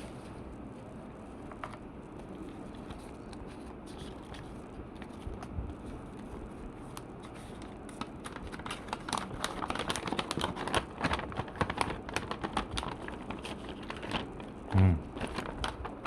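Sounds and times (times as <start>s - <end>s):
plastic wrapping crinkling: 0.1s - 16.0s.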